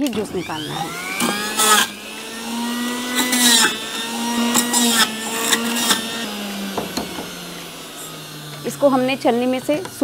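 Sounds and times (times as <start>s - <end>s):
juicer grinding: 0.0s - 10.0s
juicer motor running: 0.0s - 10.0s.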